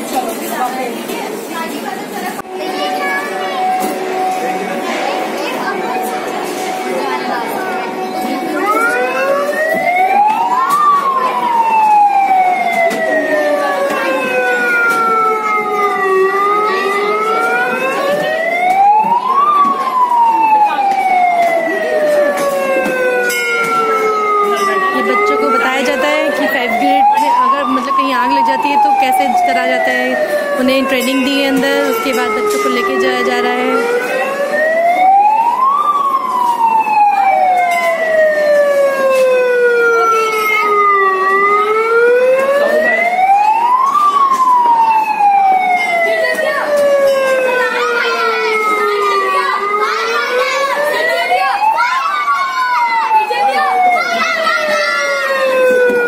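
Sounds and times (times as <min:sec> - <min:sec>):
fire truck siren wailing: 0:01.3 - 0:56.0.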